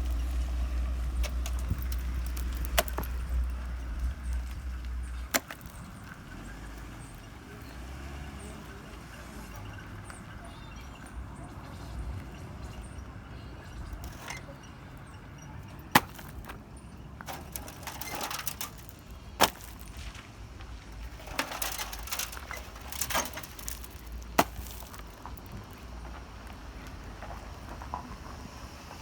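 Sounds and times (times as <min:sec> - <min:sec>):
rubble scraping and clattering: 0:00.0 - 0:10.2, 0:11.7 - 0:28.5.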